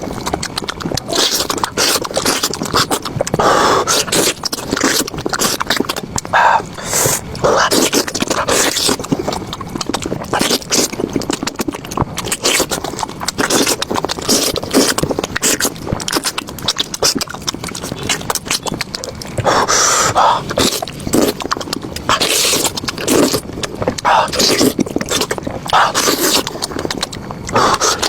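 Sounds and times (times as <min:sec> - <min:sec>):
chewing and crunching food: 0:00.0 - 0:28.0
moist mouth noises: 0:00.0 - 0:28.0.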